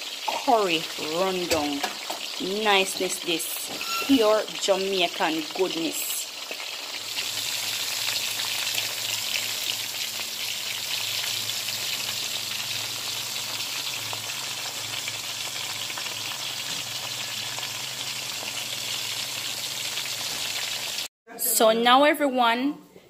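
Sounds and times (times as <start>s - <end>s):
fish sizzling in hot oil: 0.0s - 21.1s.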